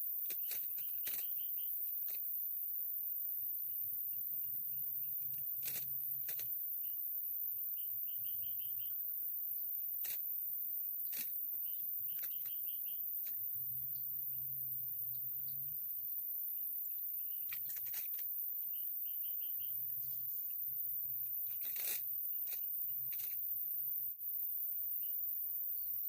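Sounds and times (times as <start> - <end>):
small birds chirping: 0.0 - 25.4
steady high hiss: 0.0 - 26.0.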